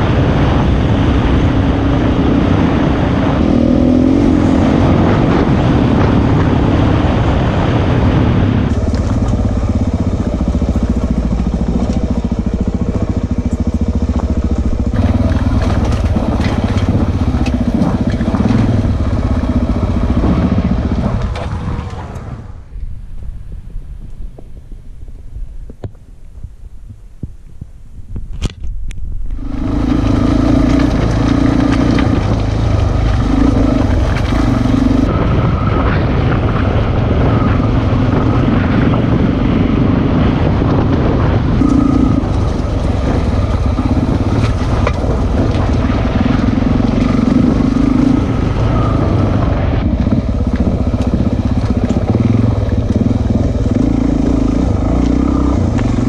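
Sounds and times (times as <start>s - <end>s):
motorcycle engine revving: 0.0s - 22.7s, 29.3s - 56.0s.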